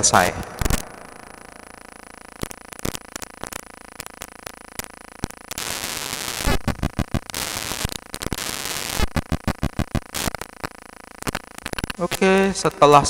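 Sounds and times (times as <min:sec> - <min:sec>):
static crackle clicks: 0:00.0 - 0:13.0
static hiss: 0:00.0 - 0:13.0.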